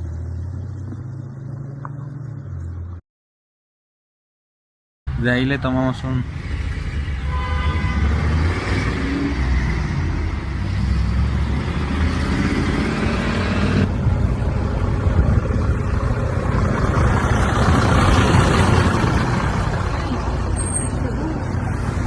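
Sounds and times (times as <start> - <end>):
car engine and road rumble: 0.0 - 3.0, 5.1 - 22.0.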